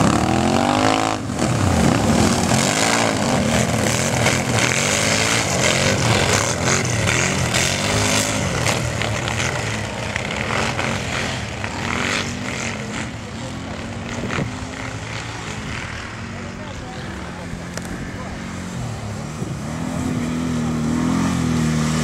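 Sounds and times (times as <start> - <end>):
racing atv engines revving: 0.0 - 22.0.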